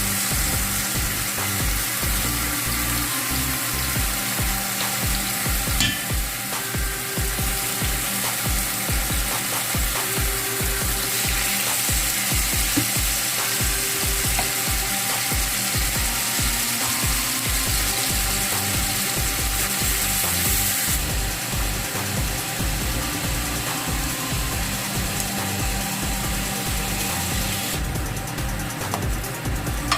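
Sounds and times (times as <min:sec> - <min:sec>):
chicken sizzling in hot oil: 0:00.0 - 0:29.9
low pulsing beat: 0:00.0 - 0:29.9.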